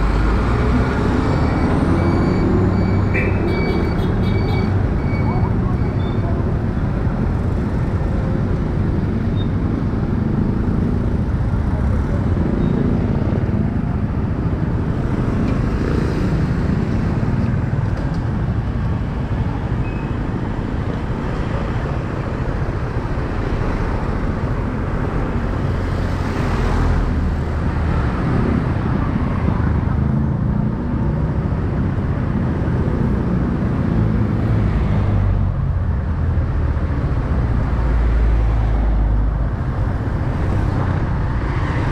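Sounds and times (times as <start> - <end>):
road traffic: 0.0 - 41.9.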